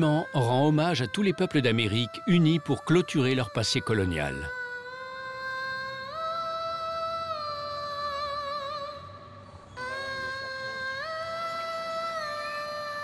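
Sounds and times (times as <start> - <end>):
slow wordless melody: 0.0 - 13.0.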